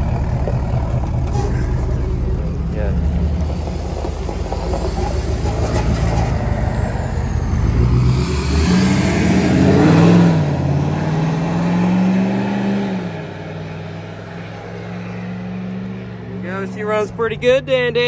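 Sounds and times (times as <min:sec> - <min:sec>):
diesel truck engine accelerating: 0:00.0 - 0:18.0.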